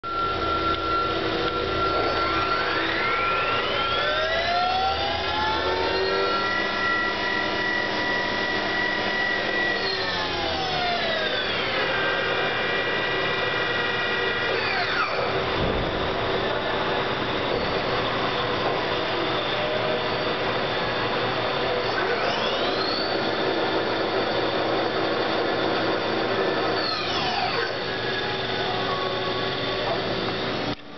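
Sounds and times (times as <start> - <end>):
machining center spindle whine: 0.0 - 30.9.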